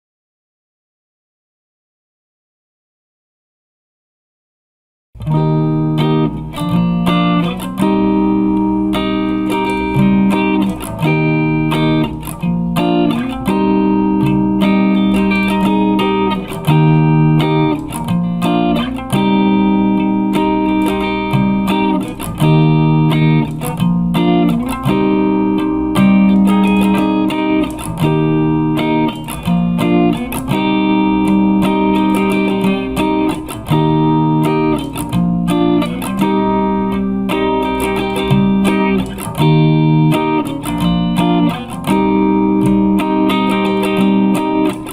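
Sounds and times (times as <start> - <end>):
guitar playing plucked chords: 5.2 - 44.9.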